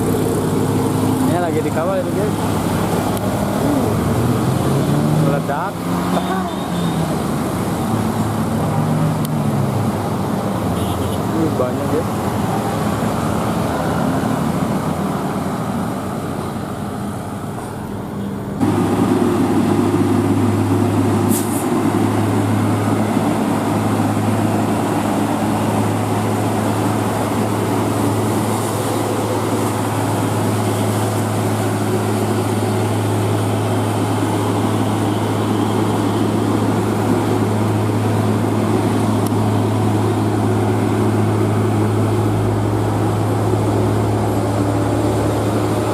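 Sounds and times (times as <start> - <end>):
heavy vehicle engine drone: 0.0 - 45.9.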